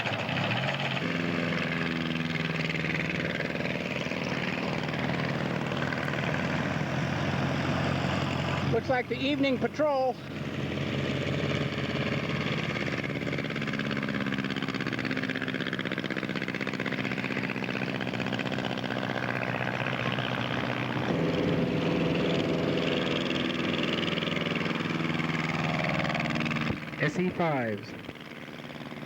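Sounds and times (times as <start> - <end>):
piston aircraft engine running: 0.0 - 29.0.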